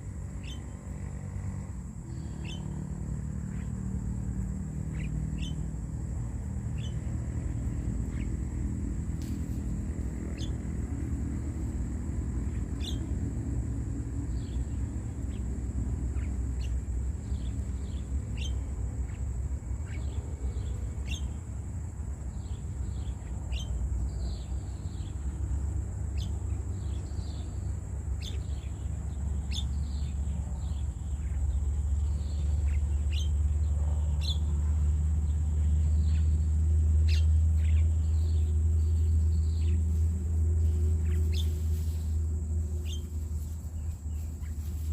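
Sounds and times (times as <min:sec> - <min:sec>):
birds chirping: 0:00.0 - 0:44.9
steady low rumble: 0:00.0 - 0:44.9.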